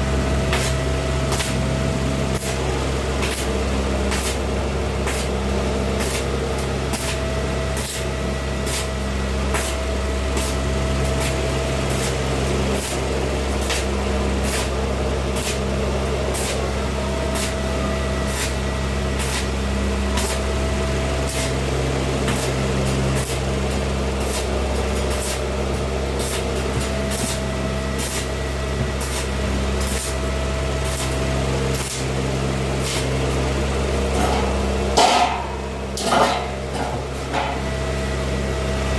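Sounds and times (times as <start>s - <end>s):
arc welding hiss and buzz: 0.0s - 38.9s
low mains hum: 0.0s - 38.9s
arc crackling: 0.5s - 37.3s.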